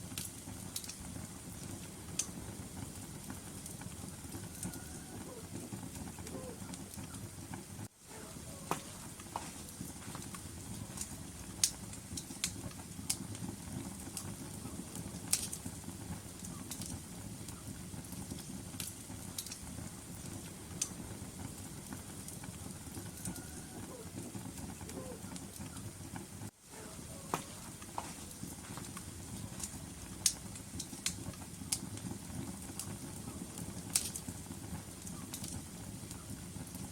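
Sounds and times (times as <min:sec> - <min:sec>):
flames rumbling: 0:00.0 - 0:36.9
wood crackling and popping: 0:00.0 - 0:36.9.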